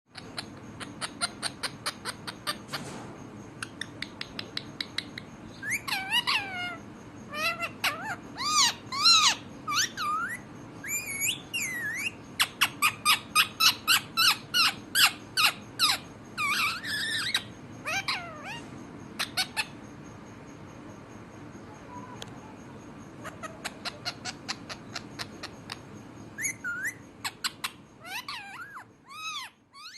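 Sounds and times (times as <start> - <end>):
parrot chattering and squawking: 0.1 - 2.8, 3.6 - 19.8, 23.0 - 29.9.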